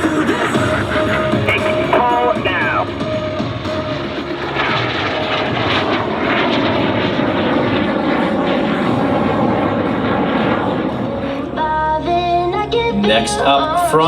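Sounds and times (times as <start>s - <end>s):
jets flying past roaring: 0.0s - 14.0s.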